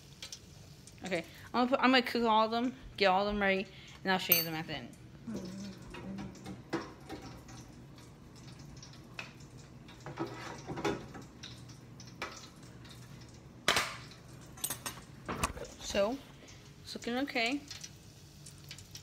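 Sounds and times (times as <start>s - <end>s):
donuts sizzling in hot oil: 0.0s - 19.0s.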